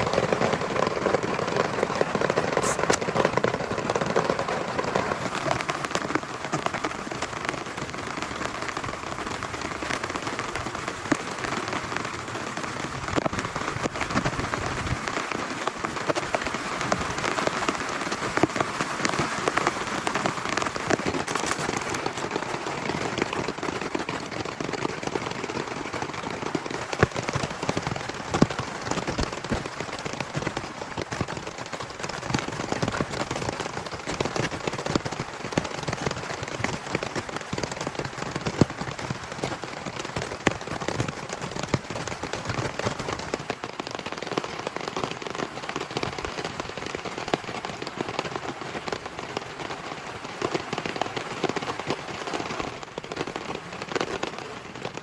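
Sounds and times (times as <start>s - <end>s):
heavy rain: 0.0s - 55.0s
raindrops clicking close by: 0.0s - 55.0s.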